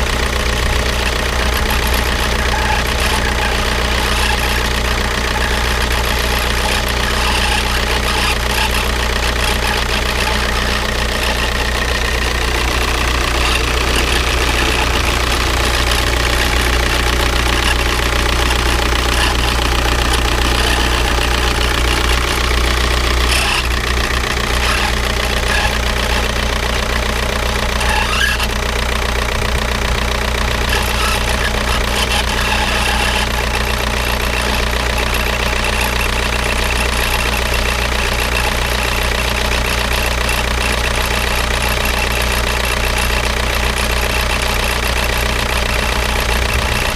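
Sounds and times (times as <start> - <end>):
diesel engine idling: 0.0 - 46.9
strange engine noise: 0.0 - 46.9.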